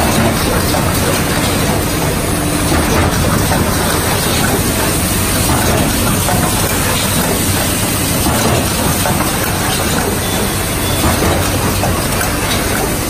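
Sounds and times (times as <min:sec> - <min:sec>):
machinery clattering: 0:00.0 - 0:13.0.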